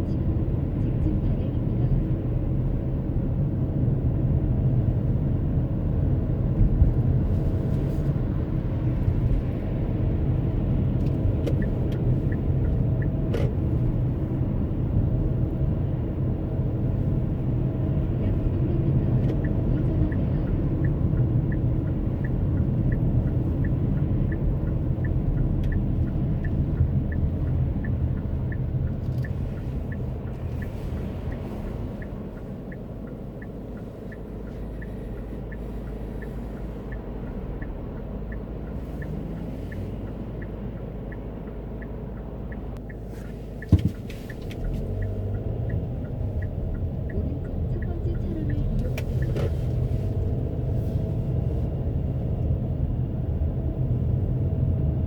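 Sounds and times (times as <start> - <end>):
car road and engine rumble: 0.0 - 55.0
light regular ticking: 8.5 - 52.6.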